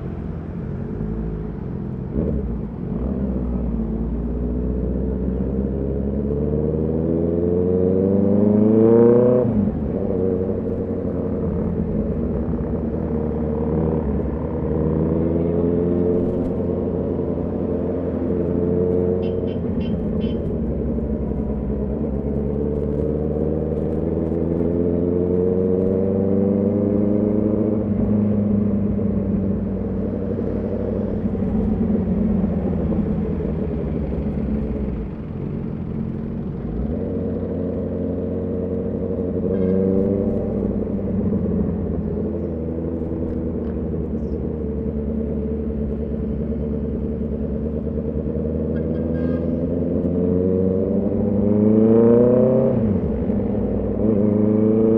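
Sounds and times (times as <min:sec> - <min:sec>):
motorcycle engine accelerating: 0:00.8 - 0:54.9.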